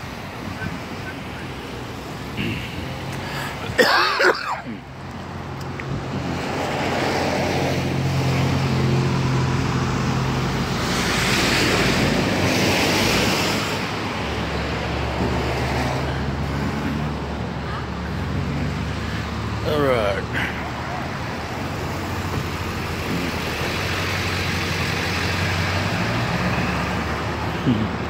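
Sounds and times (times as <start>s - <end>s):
road and wind noise: 0.0s - 28.0s
vehicle engine humming: 0.0s - 28.0s.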